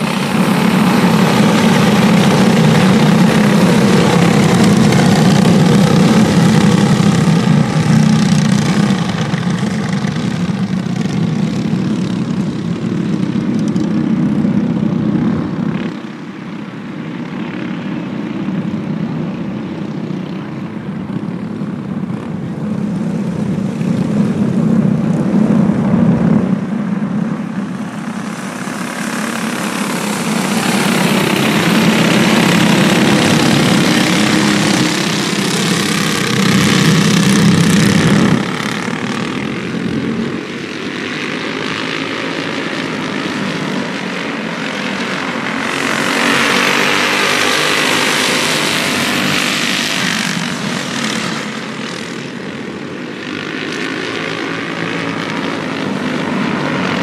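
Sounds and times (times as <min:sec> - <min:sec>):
go-kart engines buzzing: 0:00.0 - 0:57.0.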